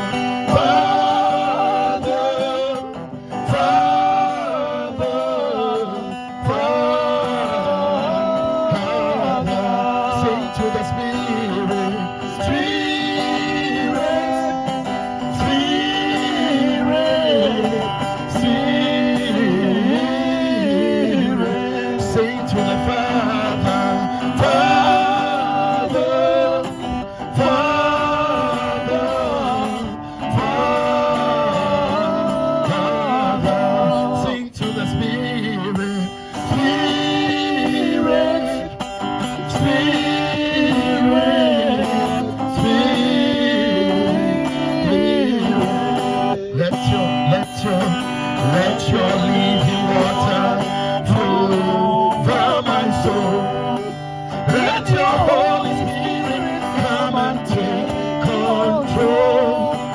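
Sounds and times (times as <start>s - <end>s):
guitar accompaniment: 0.0s - 59.9s
person singing worship song: 0.0s - 59.9s.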